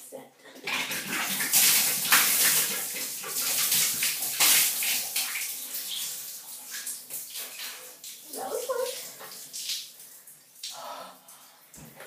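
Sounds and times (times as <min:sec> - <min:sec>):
water splashing in a tiled shower: 0:00.4 - 0:12.0.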